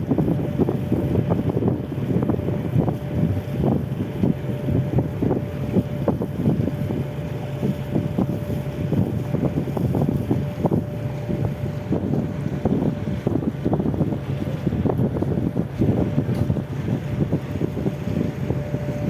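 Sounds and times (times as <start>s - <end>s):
engine running: 0.0s - 19.0s
wind buffeting microphone: 0.0s - 19.0s.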